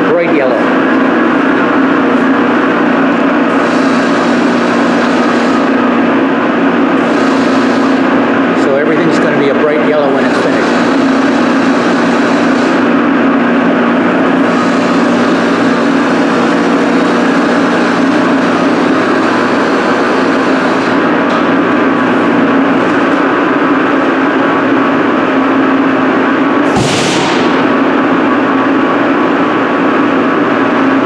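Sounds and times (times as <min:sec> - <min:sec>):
extraction fans droning: 0:00.0 - 0:31.0.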